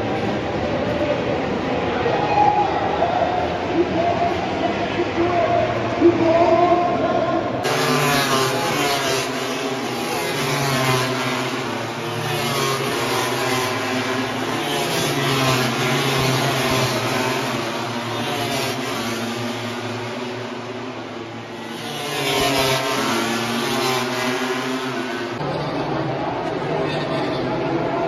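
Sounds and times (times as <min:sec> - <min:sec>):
racing motorcycles passing: 0:00.0 - 0:28.0.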